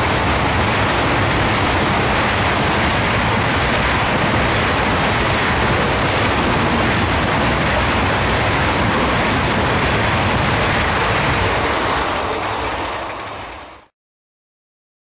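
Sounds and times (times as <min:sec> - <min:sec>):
freight train wheels on rails: 0:00.0 - 0:13.9.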